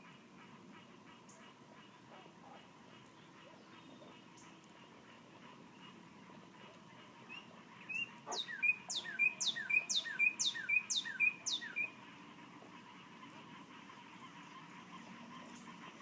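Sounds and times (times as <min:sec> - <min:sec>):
songbird singing: 0:01.1 - 0:16.0.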